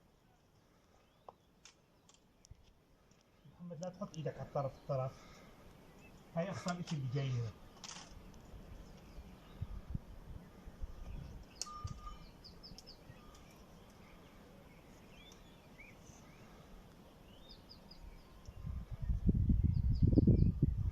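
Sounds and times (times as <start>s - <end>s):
small birds chirping: 0.2s - 20.9s.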